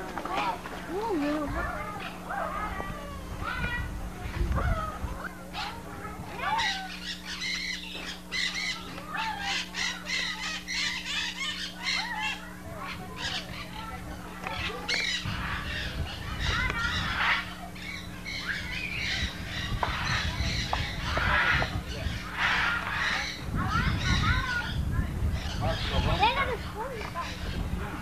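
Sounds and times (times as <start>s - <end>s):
birds chirping and squawking: 0.2s - 28.0s.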